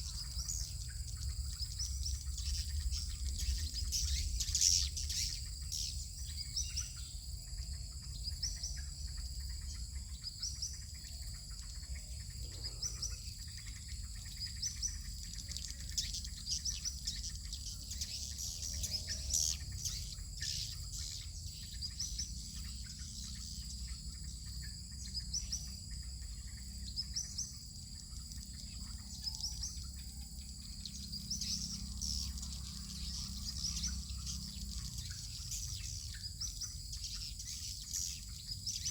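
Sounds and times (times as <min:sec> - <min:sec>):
low steady rumble: 0:00.0 - 0:38.9.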